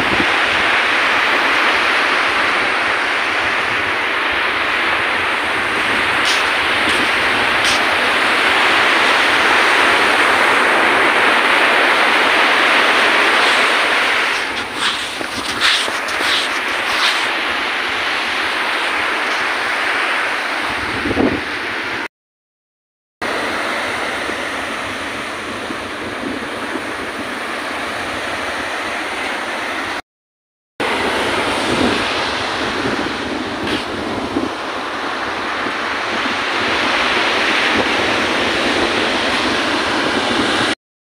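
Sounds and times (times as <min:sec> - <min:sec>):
surf washing up a sandy beach: 0:00.0 - 0:22.0, 0:23.2 - 0:30.0, 0:30.8 - 0:40.8
wind buffeting microphone: 0:00.0 - 0:22.1, 0:23.3 - 0:29.5, 0:30.8 - 0:40.8.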